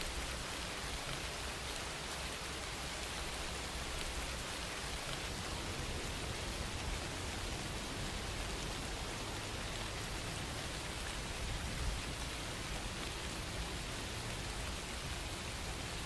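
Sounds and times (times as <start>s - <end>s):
rain pattering on a surface: 0.0s - 16.0s.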